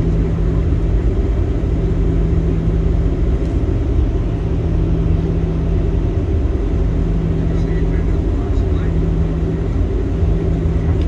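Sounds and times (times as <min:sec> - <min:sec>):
airliner cabin rumble: 0:00.0 - 0:11.0
constant hum: 0:00.0 - 0:11.0.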